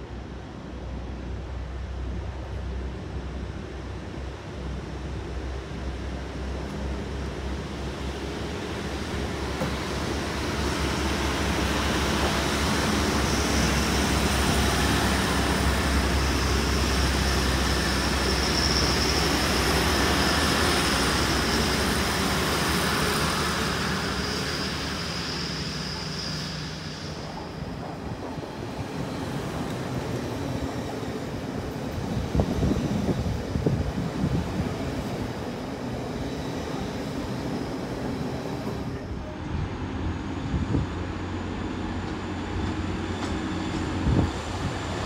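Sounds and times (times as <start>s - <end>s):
train rumbling past: 0.0s - 45.0s.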